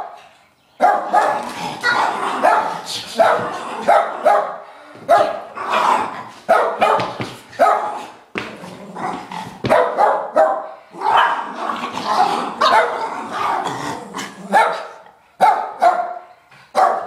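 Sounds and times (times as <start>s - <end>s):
small dogs barking: 0.0s - 8.2s, 9.0s - 17.0s.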